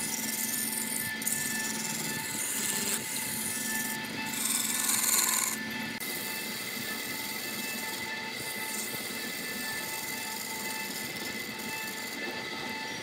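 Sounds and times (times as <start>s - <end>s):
gouge scraping wood on lathe: 0.0s - 13.0s
lathe humming: 0.0s - 13.0s.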